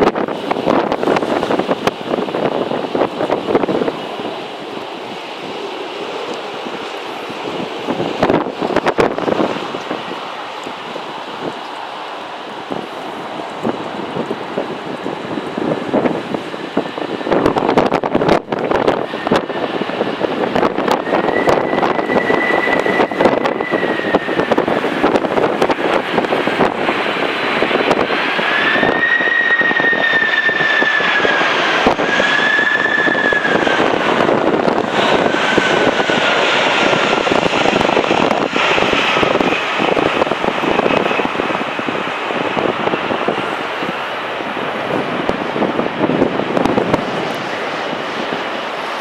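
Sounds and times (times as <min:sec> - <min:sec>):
gusting wind on microphone: 0:00.0 - 0:49.0
jet engines whining: 0:00.0 - 0:49.0.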